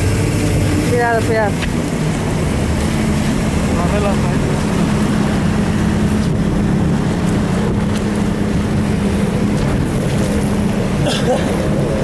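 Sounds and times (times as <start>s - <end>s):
motorboat engine running: 0.0s - 12.0s
water rushing past: 0.0s - 12.0s
wind noise on microphone: 0.0s - 12.0s.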